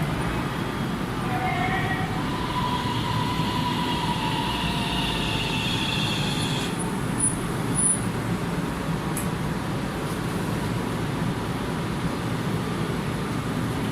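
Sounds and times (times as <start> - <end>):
tram electric drive whine: 0.0 - 13.7.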